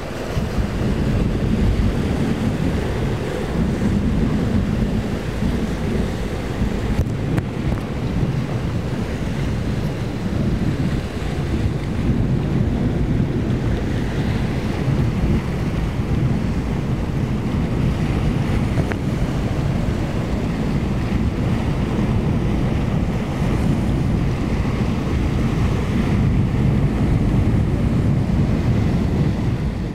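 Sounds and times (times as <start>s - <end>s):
breaking waves and surf: 0.0s - 29.9s
wind buffeting microphone: 0.0s - 29.9s.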